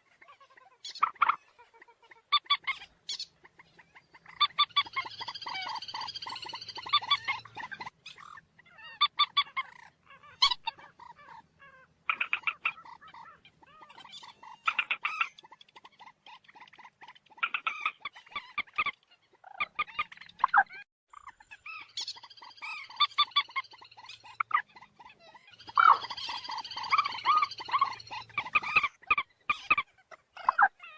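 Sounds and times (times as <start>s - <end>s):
moorhen clucking calls: 0.0s - 30.9s.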